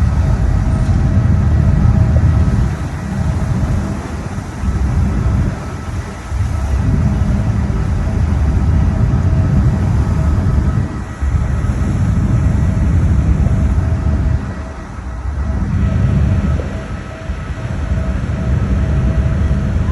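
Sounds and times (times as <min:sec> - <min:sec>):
faint steady whine: 0:00.0 - 0:19.9
heavy engine rumble: 0:00.0 - 0:19.9.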